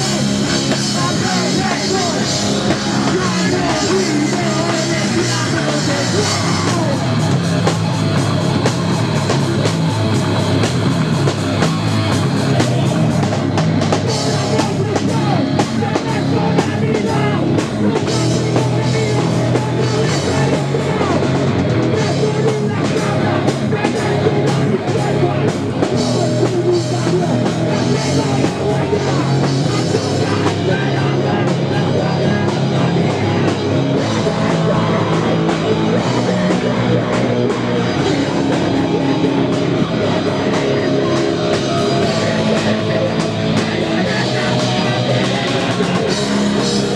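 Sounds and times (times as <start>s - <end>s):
electric guitar: 0.0s - 46.9s
shouted lead vocal: 0.0s - 46.9s.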